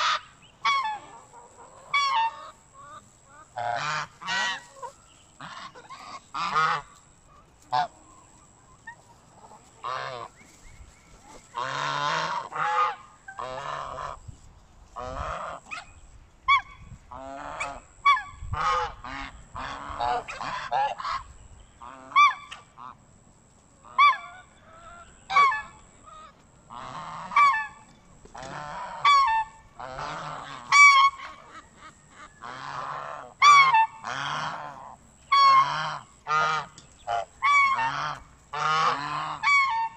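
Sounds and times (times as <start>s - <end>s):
geese honking: 0.0s - 14.3s, 15.0s - 23.0s, 23.8s - 39.9s.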